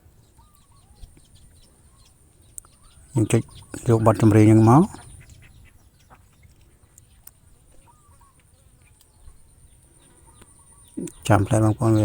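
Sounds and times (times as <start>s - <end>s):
faint distant bird calls: 0.0s - 12.0s.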